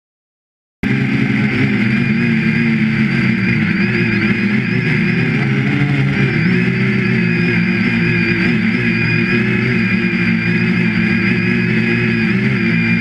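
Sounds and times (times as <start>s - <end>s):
drone propellers whirring: 0.8s - 13.0s.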